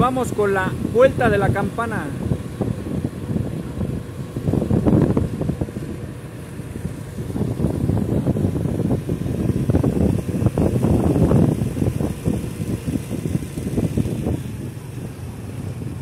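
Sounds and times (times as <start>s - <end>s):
vehicle running: 0.0s - 16.0s
wind buffeting microphone: 0.0s - 16.0s.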